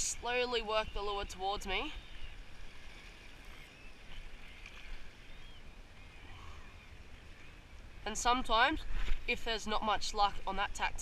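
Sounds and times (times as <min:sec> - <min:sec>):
waves lapping against rocks: 0:00.0 - 0:05.8, 0:06.4 - 0:11.0.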